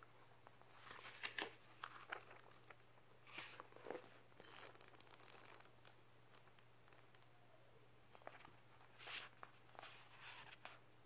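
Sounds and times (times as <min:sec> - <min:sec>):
book pages rustling: 0:00.4 - 0:07.2, 0:08.1 - 0:10.8.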